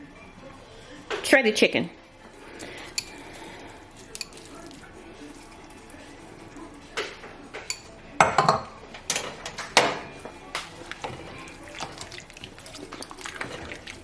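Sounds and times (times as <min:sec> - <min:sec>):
utensil clinking against pot: 0:02.4 - 0:14.0.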